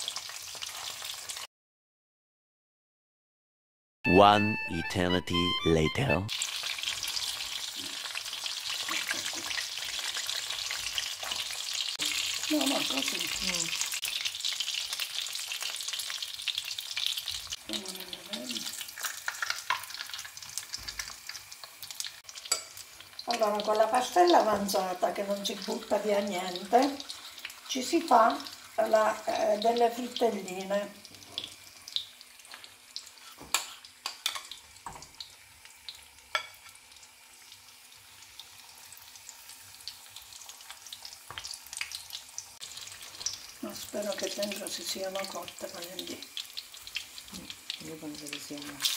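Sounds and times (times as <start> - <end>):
fish sizzling in hot oil: 0.0 - 1.5, 6.3 - 48.9.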